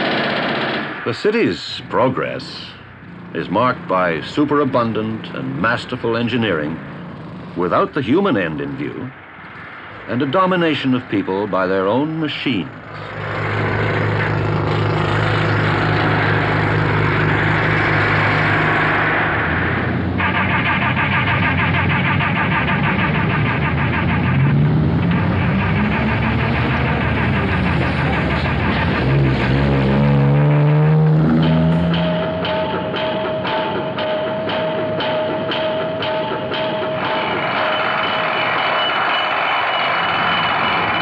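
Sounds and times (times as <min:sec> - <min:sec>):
car and truck engines: 0:00.0 - 0:41.0.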